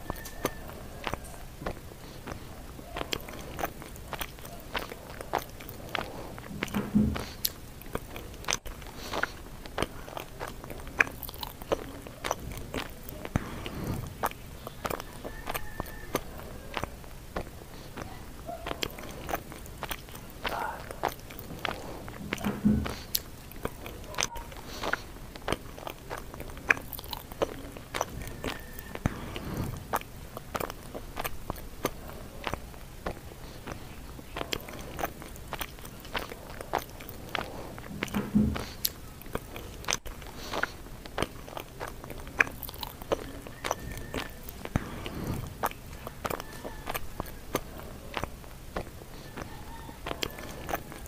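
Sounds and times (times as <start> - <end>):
chewing with wet smacks: 0.0 - 51.0
person crunching leaves and stems: 0.0 - 51.0.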